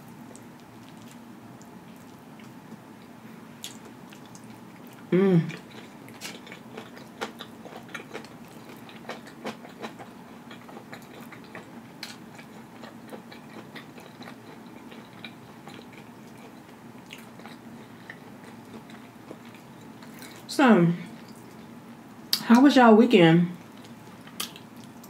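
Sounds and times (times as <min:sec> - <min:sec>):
person chewing with mouth clicks: 0:00.2 - 0:20.4, 0:23.7 - 0:25.0.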